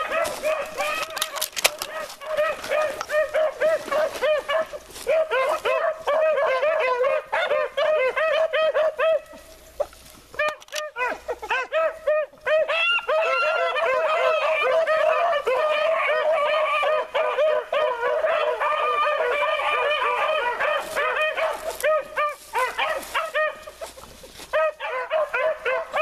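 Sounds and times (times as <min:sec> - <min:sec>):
beagles baying: 0:00.0 - 0:26.0.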